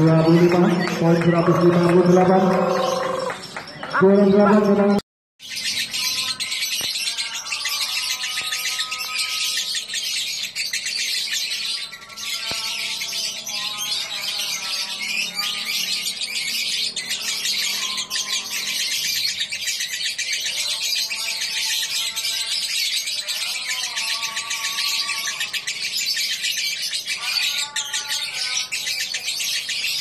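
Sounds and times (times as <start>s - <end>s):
lovebird high-pitched trill: 5.4s - 30.0s.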